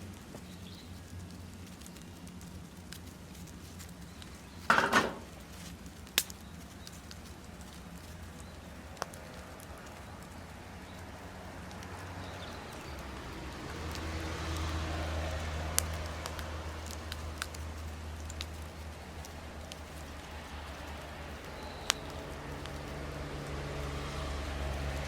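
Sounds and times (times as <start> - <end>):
campfire crackling: 0.0 - 25.0
fire popping: 0.0 - 25.0.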